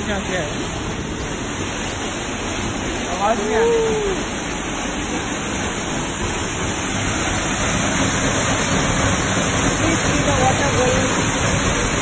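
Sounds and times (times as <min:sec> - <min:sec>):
water pouring through metal grate: 0:00.0 - 0:12.0.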